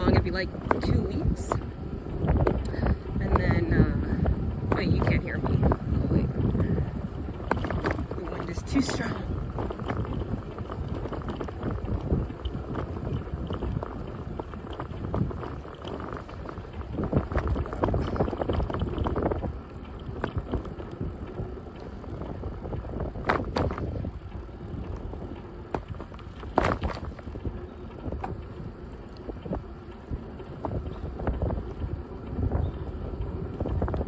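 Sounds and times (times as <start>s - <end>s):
bicycle riding noise: 0.0s - 34.0s
wind buffeting microphone: 0.0s - 34.0s.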